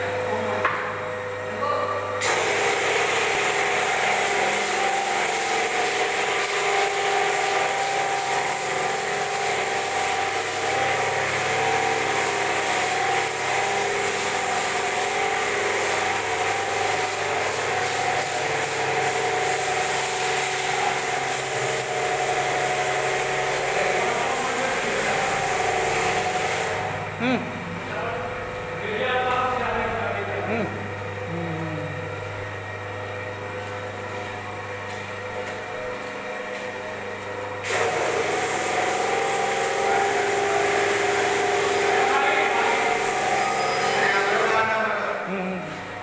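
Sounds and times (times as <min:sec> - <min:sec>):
pressure washer motor hum: 0:00.0 - 0:46.0.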